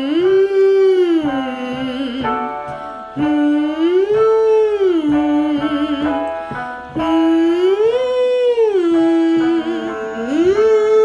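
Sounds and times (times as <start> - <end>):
woman singing vocal sirens: 0.0 - 2.5, 3.2 - 6.3, 6.9 - 11.0
electronic keyboard notes: 0.0 - 11.0.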